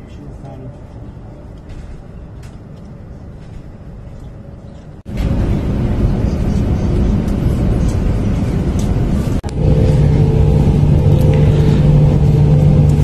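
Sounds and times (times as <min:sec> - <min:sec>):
steady low hum: 0:00.0 - 0:13.0
train rumble: 0:00.0 - 0:13.0.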